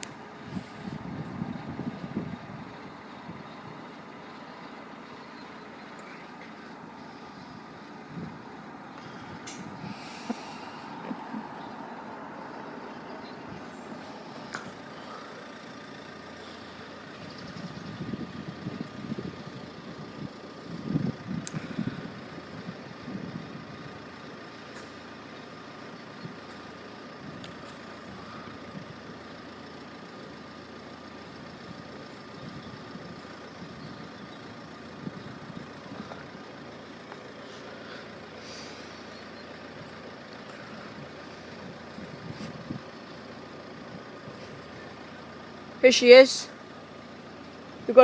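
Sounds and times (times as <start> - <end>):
vehicle engines idling: 0.0 - 48.0.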